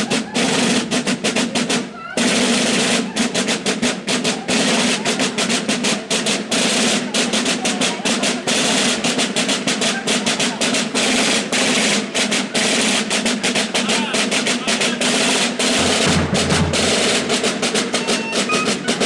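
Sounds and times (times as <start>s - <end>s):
snare and bass drums beat: 0.0s - 19.0s.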